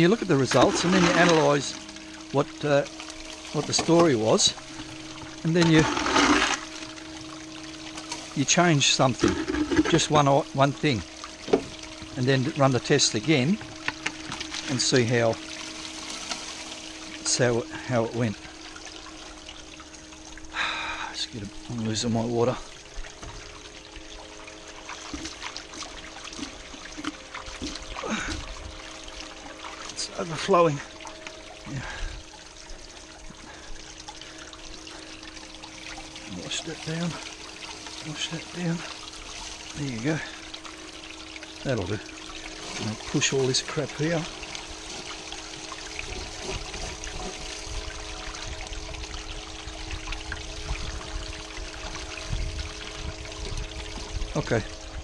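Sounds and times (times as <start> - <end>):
faint steady hum: 0.0 - 55.0
small water splashes: 0.0 - 55.0
water running and trickling: 0.0 - 55.0.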